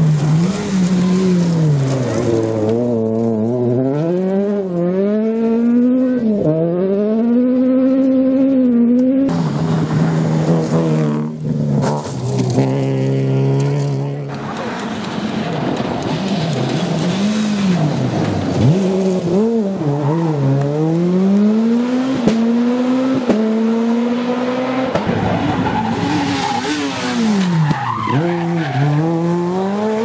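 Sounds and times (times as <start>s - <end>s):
car engine steady pitch: 0.0s - 30.0s
rally car engine revving: 0.0s - 30.0s.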